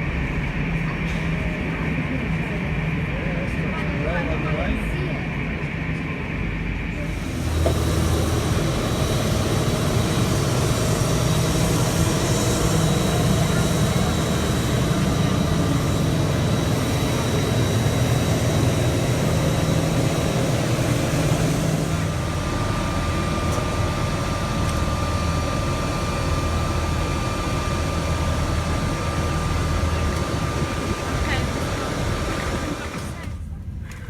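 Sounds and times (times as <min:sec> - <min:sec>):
aircraft cabin drone: 0:00.0 - 0:34.0.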